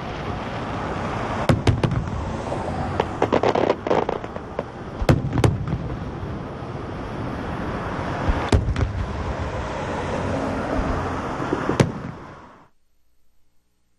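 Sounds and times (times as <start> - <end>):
fireworks bangs: 0.0 - 6.8, 8.0 - 12.7
steady rushing noise: 0.0 - 12.8.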